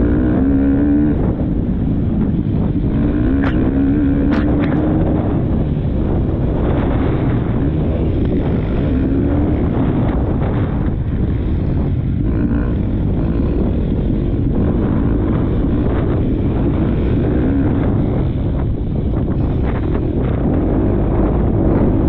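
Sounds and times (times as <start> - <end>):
motocross bike engine revving: 0.0 - 22.0
wind buffeting microphone: 0.0 - 22.0.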